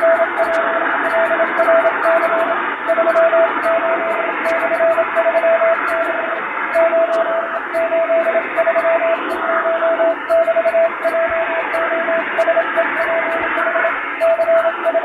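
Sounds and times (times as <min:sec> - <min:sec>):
morse code beeps: 0:00.0 - 0:15.0
static hiss: 0:00.0 - 0:15.0.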